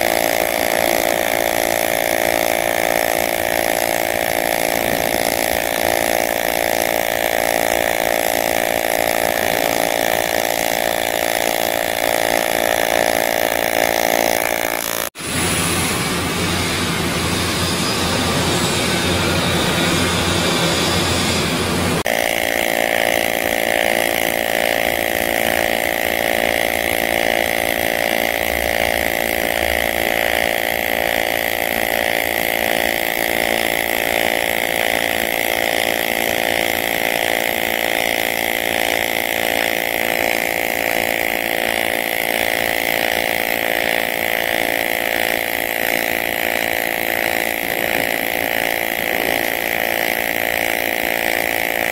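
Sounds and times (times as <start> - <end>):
welding arc buzzing: 0.0 - 51.9.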